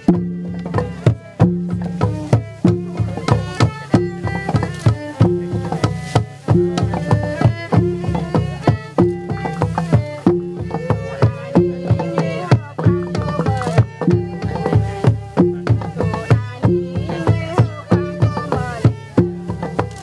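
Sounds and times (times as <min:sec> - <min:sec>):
hand drums playing a rhythm: 0:00.0 - 0:20.0.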